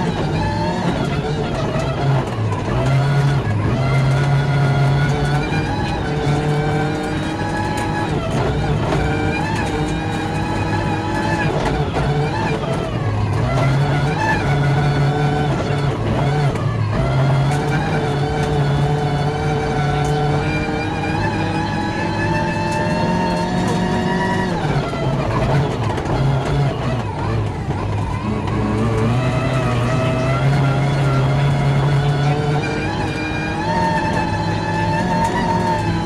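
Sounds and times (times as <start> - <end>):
car engine running hard: 0.0 - 36.0.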